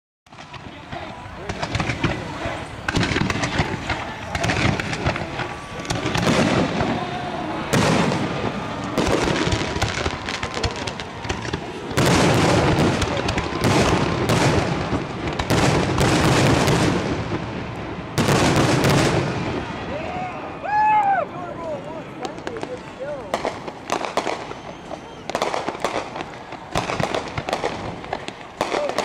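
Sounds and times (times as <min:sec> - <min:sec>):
fireworks bangs and crackles: 0:00.3 - 0:20.6, 0:21.5 - 0:29.0.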